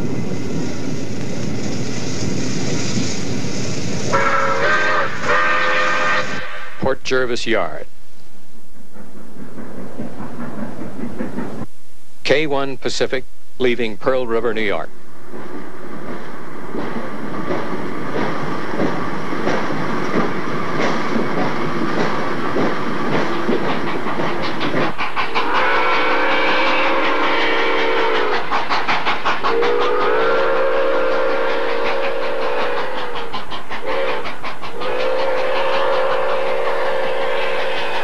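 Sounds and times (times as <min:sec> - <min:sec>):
steam locomotive exhaust beating: 0:00.0 - 0:11.7, 0:14.4 - 0:38.0.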